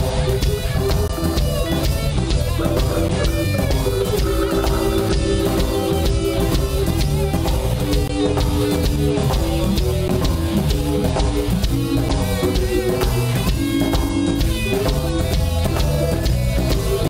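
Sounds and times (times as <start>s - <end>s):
bass guitar: 0.0s - 17.0s
drum kit steady beat: 0.0s - 17.0s
electric guitar melody: 0.0s - 17.0s.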